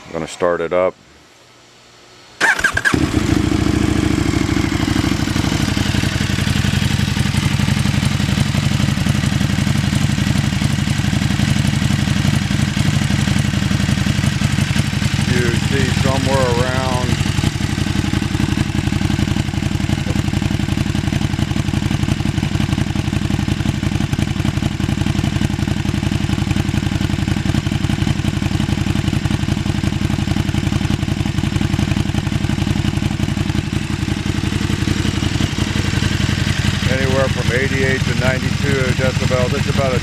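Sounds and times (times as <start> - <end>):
motorcycle engine idling: 2.4 - 40.0.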